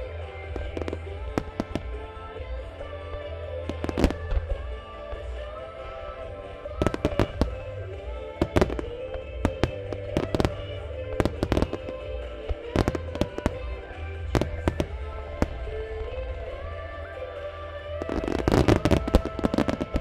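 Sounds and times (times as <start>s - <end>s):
music playing: 0.0s - 20.0s.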